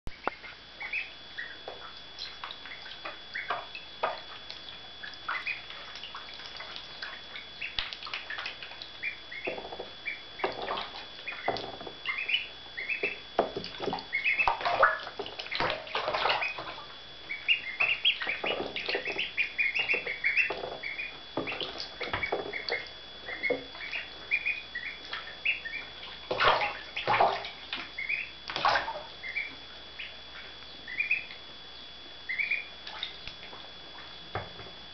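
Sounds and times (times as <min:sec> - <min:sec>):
ducklings peeping: 0:00.1 - 0:34.2
water splashing: 0:00.4 - 0:29.5, 0:32.3 - 0:33.5.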